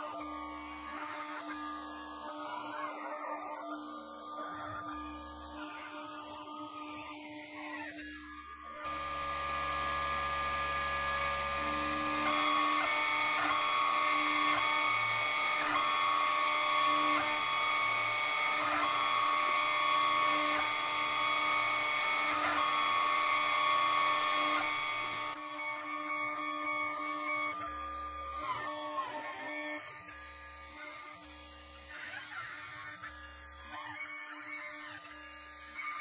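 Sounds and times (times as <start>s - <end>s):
router cutting wood: 0.0s - 36.0s
router spindle whining: 0.0s - 36.0s.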